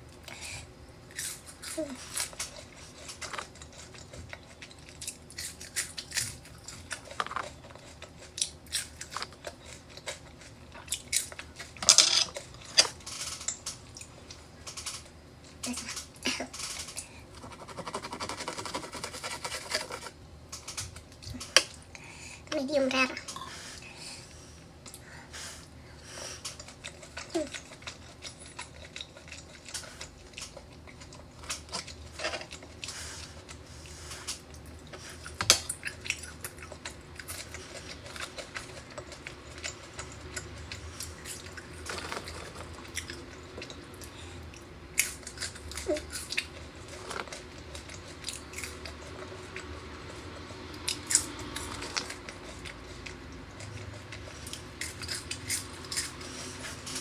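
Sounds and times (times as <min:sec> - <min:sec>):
chewing with wet mouth noises: 0:00.0 - 0:16.2, 0:23.2 - 0:57.0.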